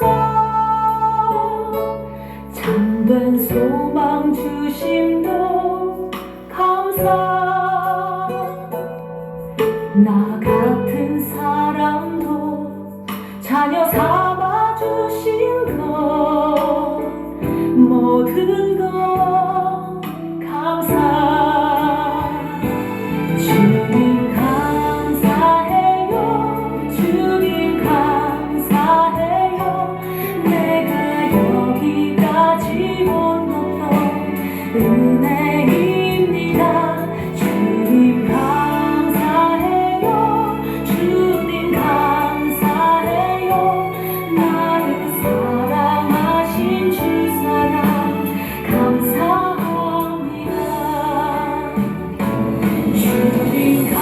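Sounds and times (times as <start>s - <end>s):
guitar accompaniment: 0.0s - 54.0s
woman singing worship song: 0.0s - 54.0s.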